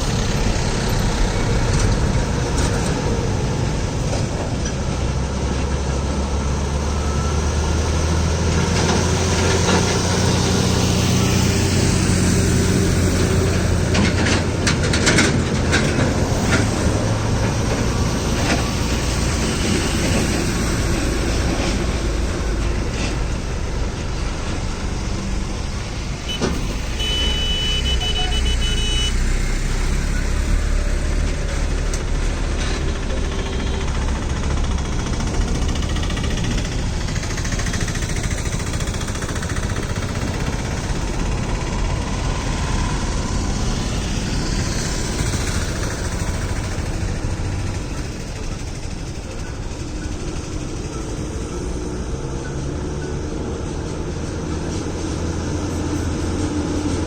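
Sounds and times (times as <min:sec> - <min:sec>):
lorry engine rumbling: 0:00.0 - 0:57.0
road noise: 0:00.0 - 0:57.0.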